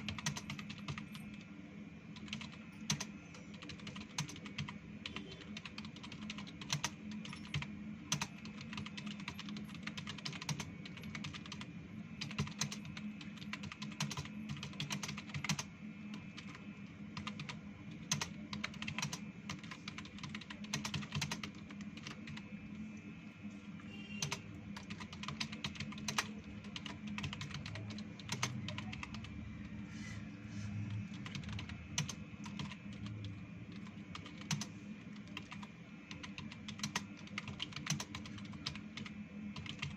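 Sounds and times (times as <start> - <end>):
fast keyboard typing: 0.0 - 1.4, 2.2 - 22.8, 24.2 - 29.8, 30.8 - 39.9.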